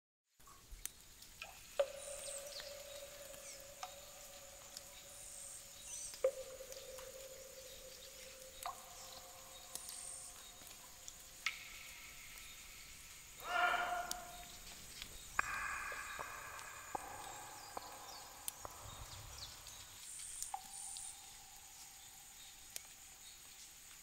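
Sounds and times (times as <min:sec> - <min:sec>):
high insect-like chirps: 0:01.4 - 0:23.7.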